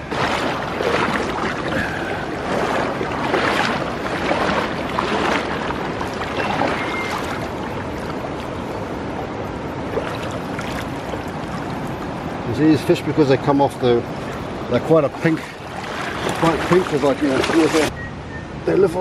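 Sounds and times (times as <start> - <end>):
river water rushing and splashing: 0.0 - 17.9.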